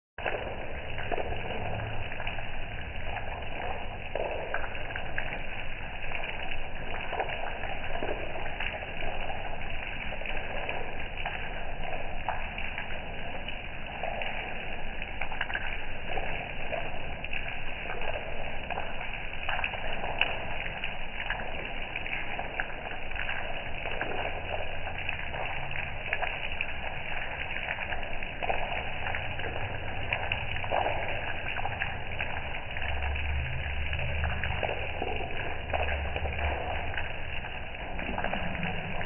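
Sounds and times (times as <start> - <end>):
rain falling: 0.2 - 39.0.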